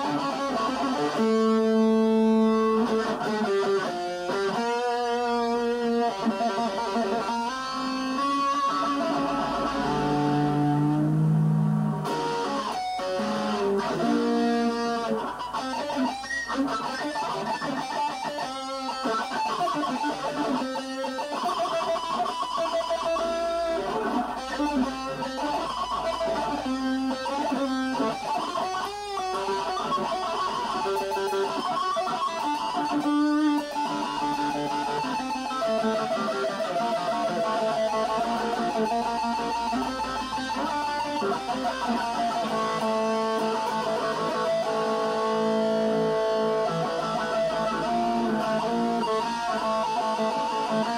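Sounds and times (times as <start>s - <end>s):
electric guitar melody: 0.0s - 50.9s.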